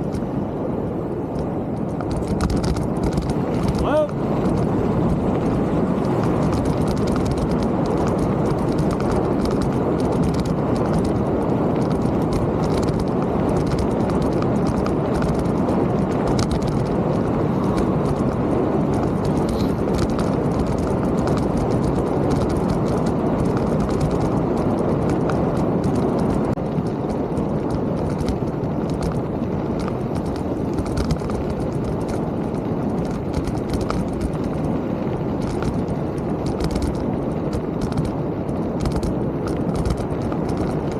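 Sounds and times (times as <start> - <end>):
bike clicks and rattles: 0.0 - 0.4, 1.3 - 40.9
tyres and air rumble: 0.0 - 40.9.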